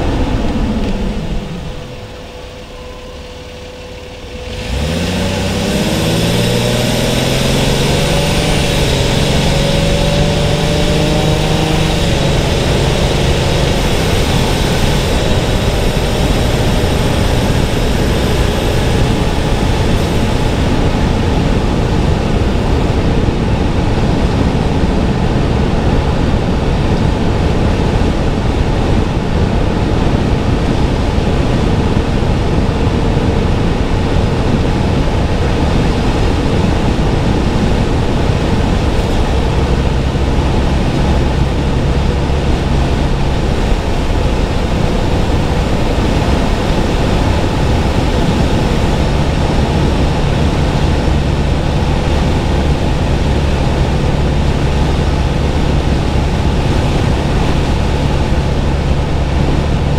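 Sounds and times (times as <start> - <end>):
car engine accelerating: 0.0 - 59.9
road and wind noise: 0.0 - 59.9.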